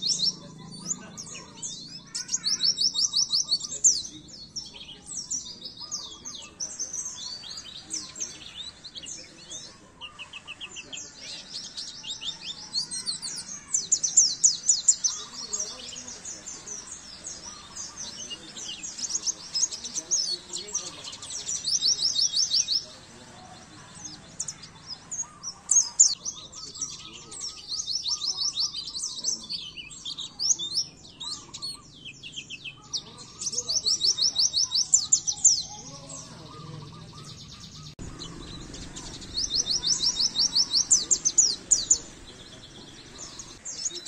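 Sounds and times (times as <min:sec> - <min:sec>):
bird chattering trills: 0:00.0 - 0:44.0.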